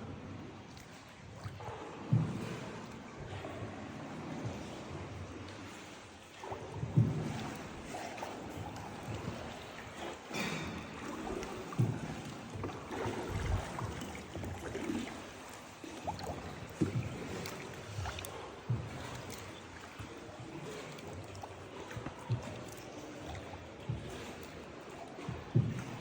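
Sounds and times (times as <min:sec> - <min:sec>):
paddling on water: 0:00.0 - 0:26.0
boat knocks: 0:02.0 - 0:05.4, 0:06.5 - 0:26.0.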